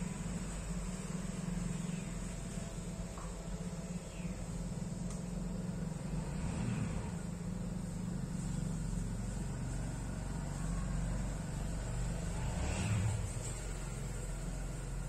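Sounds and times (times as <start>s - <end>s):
engine running with low rumble: 0.0s - 15.0s
high-pitched hiss: 0.0s - 15.0s.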